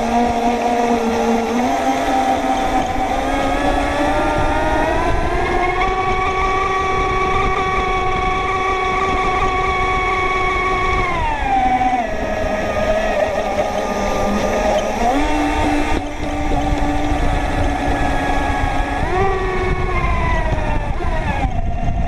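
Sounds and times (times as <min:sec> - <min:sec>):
water rushing: 0:00.0 - 0:20.6
model boat motor whining: 0:00.0 - 0:22.0
wind: 0:00.0 - 0:22.0.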